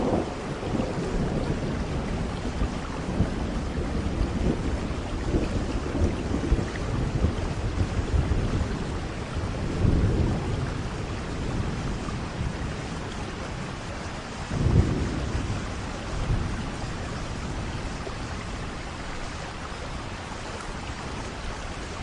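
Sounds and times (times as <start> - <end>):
low rumbling thunder: 0.0 - 19.0
steady rain: 0.0 - 22.0.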